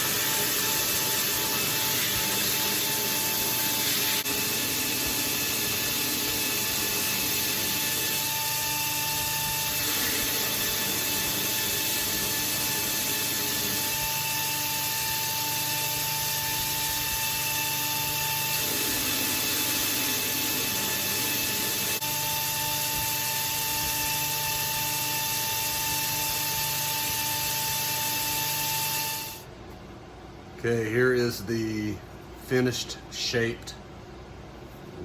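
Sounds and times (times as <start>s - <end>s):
belt grinder grinding steel: 0.0s - 29.4s.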